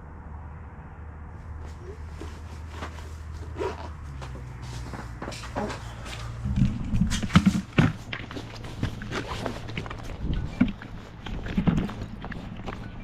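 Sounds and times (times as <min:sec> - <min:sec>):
steady low hum: 0:00.0 - 0:13.0
footsteps: 0:01.4 - 0:13.0.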